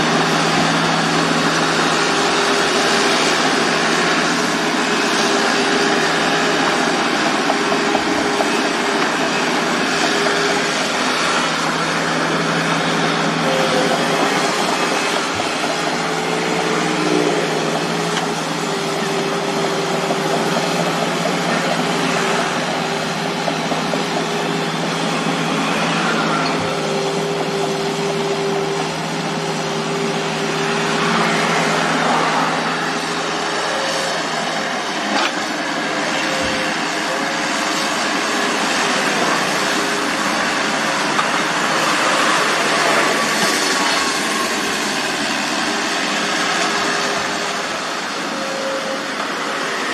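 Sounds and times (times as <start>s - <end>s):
excavator diesel engine: 0.0s - 49.9s
hydraulic whine: 0.0s - 49.9s.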